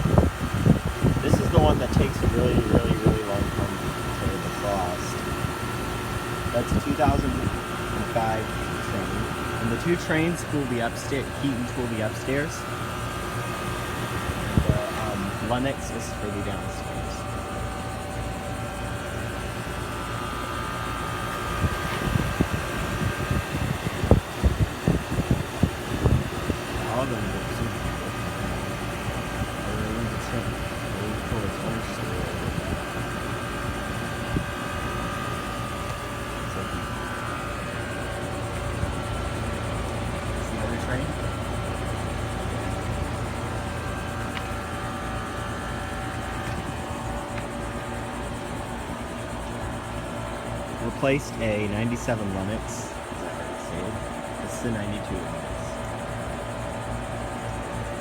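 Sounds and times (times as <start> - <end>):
faint steady tones: 0.0 - 58.0
heat pump compressor and fan hum: 0.0 - 58.0.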